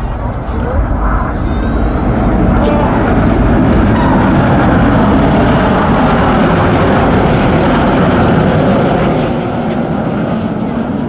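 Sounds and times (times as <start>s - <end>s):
loud jet noise: 0.0s - 11.0s.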